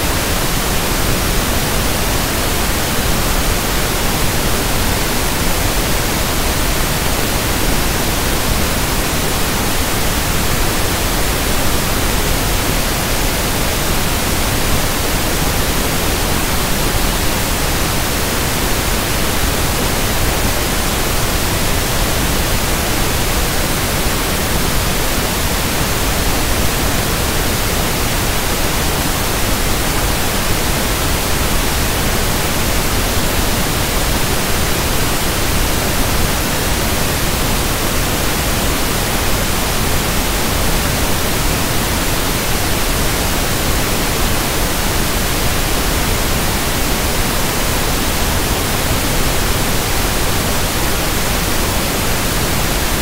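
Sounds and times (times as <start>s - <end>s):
steady pink noise hiss: 0.0s - 53.0s.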